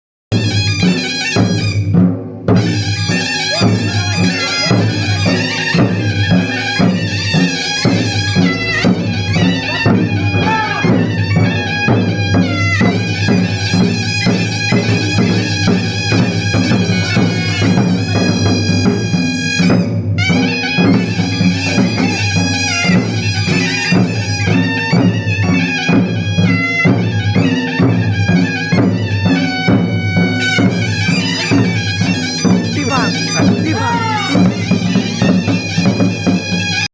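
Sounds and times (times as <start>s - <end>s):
drums beating fast rhythm: 0.3s - 36.9s
reedy wind instrument melody: 0.3s - 36.9s.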